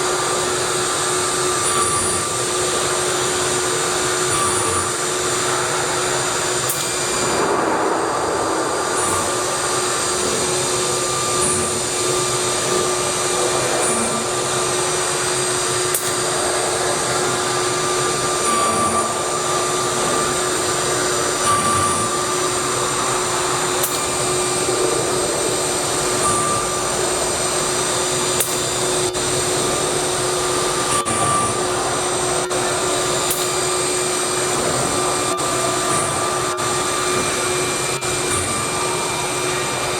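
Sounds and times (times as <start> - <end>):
wood router spindle whine: 0.0 - 39.9.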